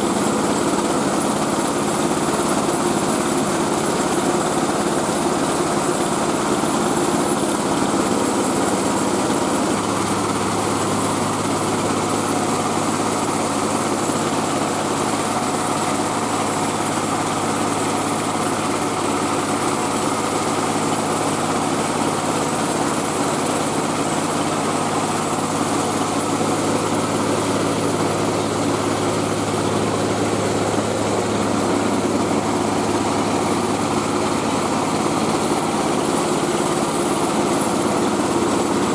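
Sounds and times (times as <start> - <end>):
rice-milling machine droning: 0.0 - 38.9.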